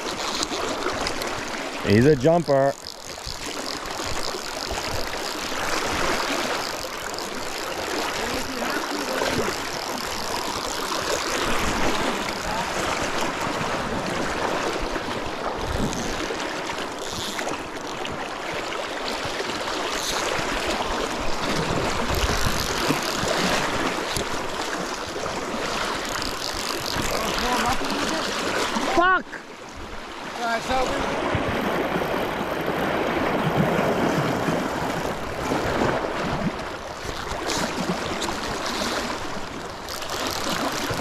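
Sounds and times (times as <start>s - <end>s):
creek water rushing over gravel: 0.0s - 29.5s, 30.2s - 41.0s.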